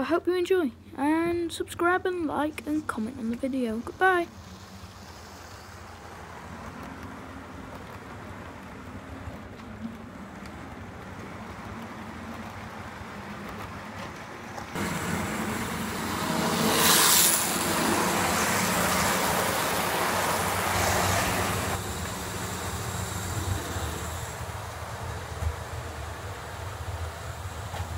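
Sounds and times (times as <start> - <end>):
model train whirring: 1.9 - 27.9.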